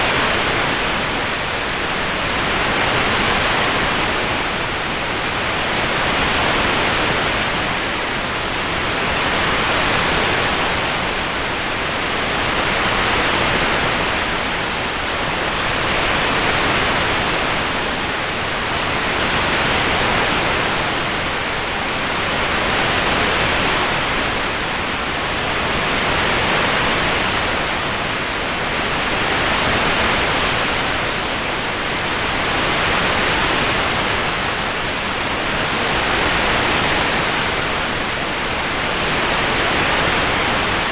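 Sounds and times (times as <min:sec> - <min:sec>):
steady hiss of rain: 0:00.0 - 0:40.9.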